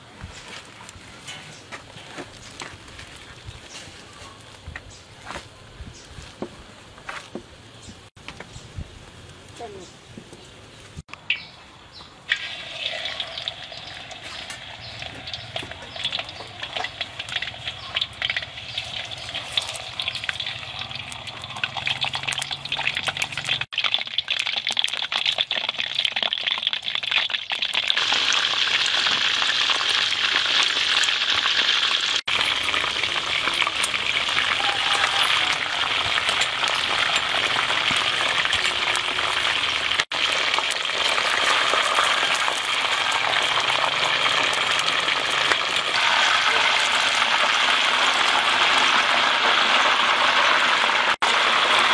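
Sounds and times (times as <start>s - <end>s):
hot oil sizzling and crackling: 7.9s - 51.9s.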